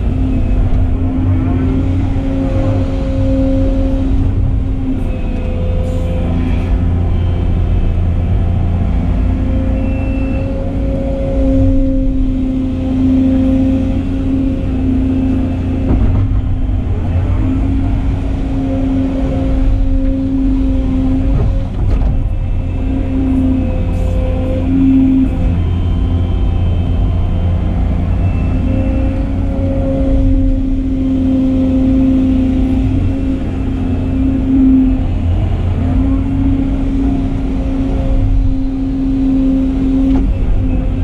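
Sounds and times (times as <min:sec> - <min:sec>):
excavator engine and hydraulics rumbling: 0:00.0 - 0:41.0.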